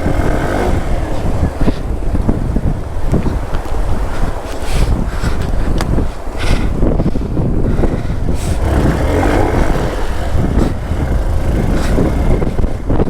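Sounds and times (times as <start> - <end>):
motorcycle engine running: 0.0 - 6.3, 7.0 - 13.0.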